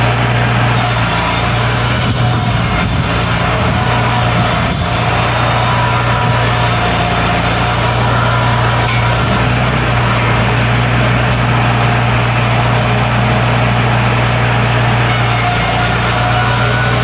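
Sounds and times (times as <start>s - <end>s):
sawmill engines humming and whirring: 0.0s - 17.0s.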